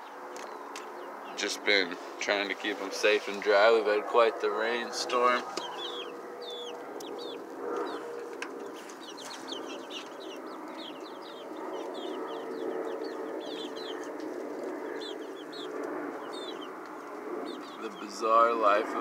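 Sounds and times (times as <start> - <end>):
chicks peeping: 0.4 - 19.0.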